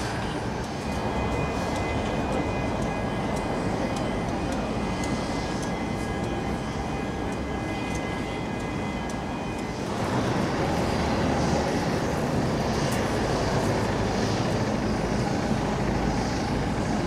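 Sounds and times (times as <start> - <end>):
faint high whine: 0.0 - 17.0
jet engines rumbling: 0.0 - 17.0.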